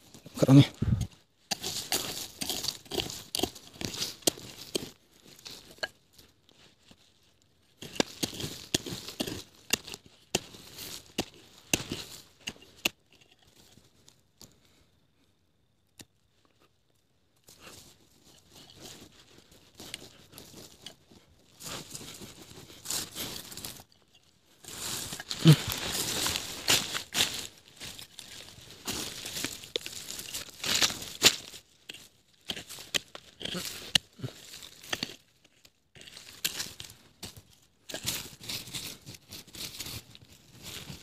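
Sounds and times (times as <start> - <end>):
rustling and crunching: 0.0 - 41.0.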